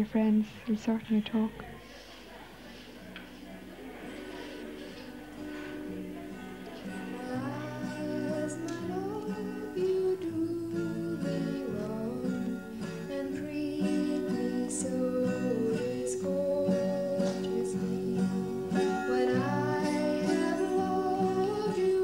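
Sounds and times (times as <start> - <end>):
strummed acoustic guitar: 3.2 - 22.0.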